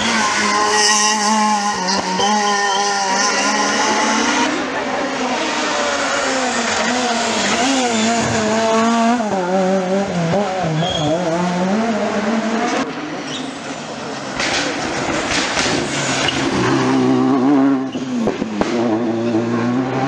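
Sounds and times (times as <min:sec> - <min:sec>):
rally car approaching: 0:00.0 - 0:20.0
rally car engine revving: 0:00.0 - 0:20.0.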